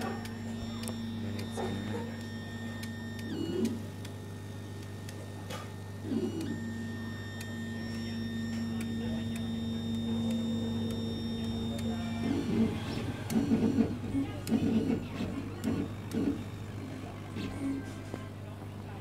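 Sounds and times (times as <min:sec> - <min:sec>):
stepper motors whining: 0:00.0 - 0:05.2, 0:05.8 - 0:18.2
laser cutter humming: 0:00.0 - 0:19.0.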